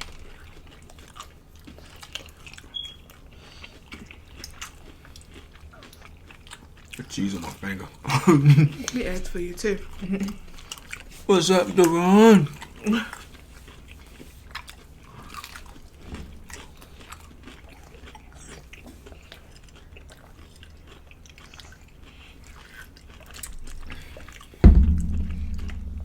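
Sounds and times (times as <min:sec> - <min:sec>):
crunching and chewing fried food: 0:00.0 - 0:09.1, 0:11.9 - 0:24.6.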